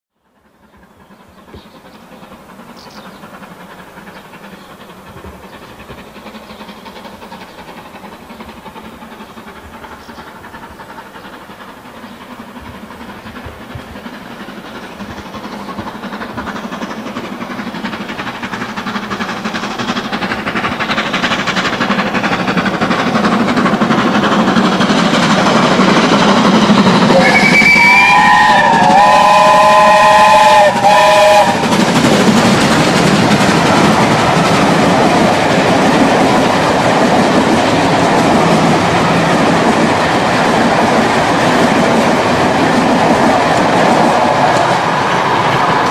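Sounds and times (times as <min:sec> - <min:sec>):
steam locomotive exhaust beats: 0:00.2 - 0:45.9
steam hiss: 0:00.3 - 0:45.9.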